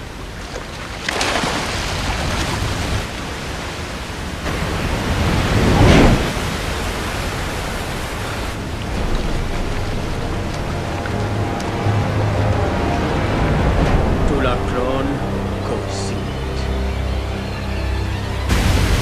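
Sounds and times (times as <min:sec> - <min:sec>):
waterfall rushing: 0:01.4 - 0:19.0.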